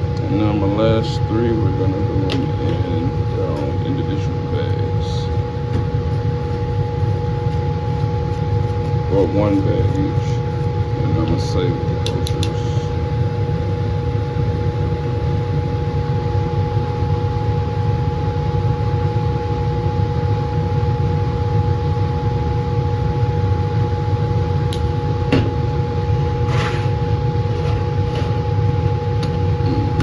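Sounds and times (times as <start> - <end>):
blower humming: 0.0 - 30.0.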